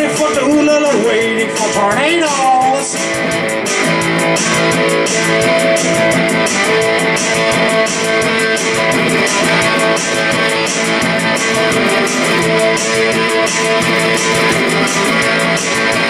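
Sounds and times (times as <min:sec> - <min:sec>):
electric guitar strumming: 0:00.0 - 0:16.0.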